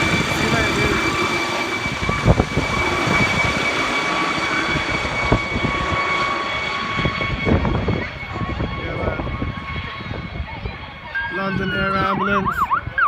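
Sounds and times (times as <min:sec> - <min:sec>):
helicopter rotor blades chopping: 0:00.0 - 0:13.0
high turbine whine: 0:00.0 - 0:13.0.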